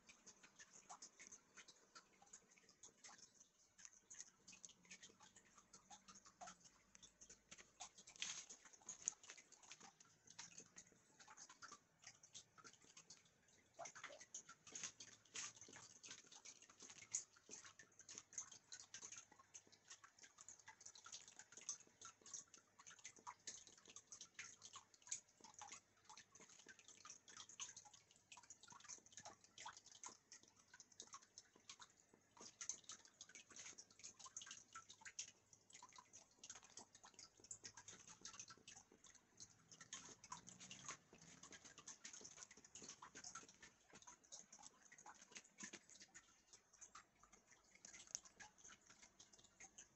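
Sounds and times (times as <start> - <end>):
water simmering in a pot: 0.0 - 49.9.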